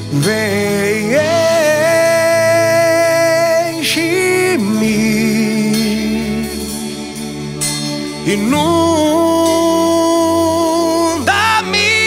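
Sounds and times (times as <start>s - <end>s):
sustained instrumental chords: 0.0s - 12.0s.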